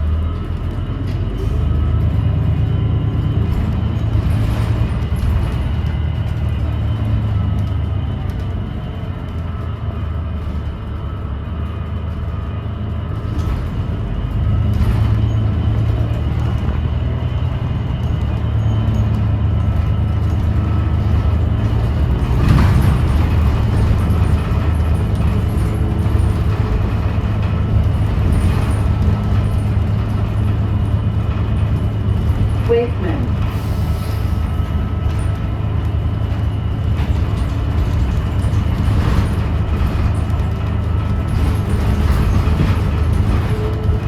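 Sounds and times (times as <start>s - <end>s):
bus engine drone: 0.0s - 44.0s.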